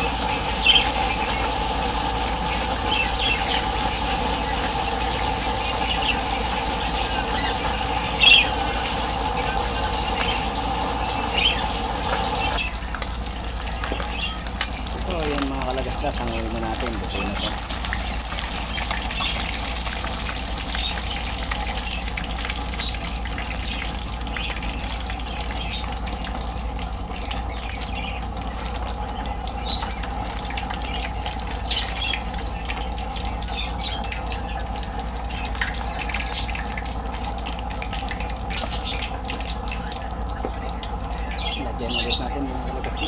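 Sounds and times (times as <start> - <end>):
fish frying in hot oil: 0.0 - 43.0.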